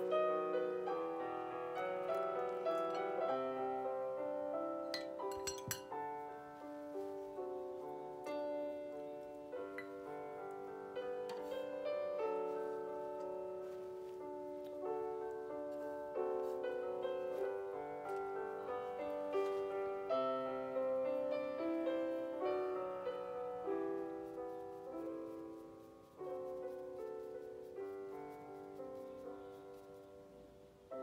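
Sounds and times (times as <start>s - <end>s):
gentle instrumental melody with chords: 0.0s - 31.0s.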